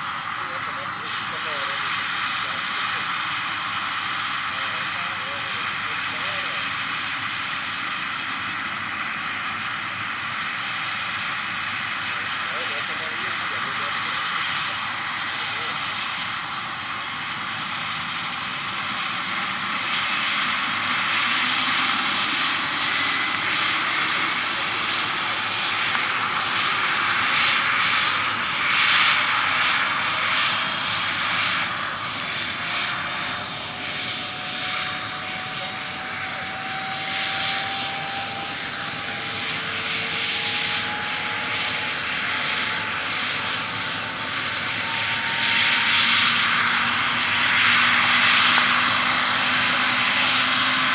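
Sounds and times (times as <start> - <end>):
model helicopter turbine whining: 0.0 - 50.9.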